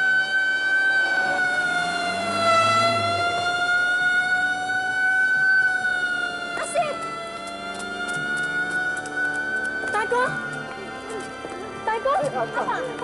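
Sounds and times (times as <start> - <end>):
ambulance siren: 0.0 - 13.0.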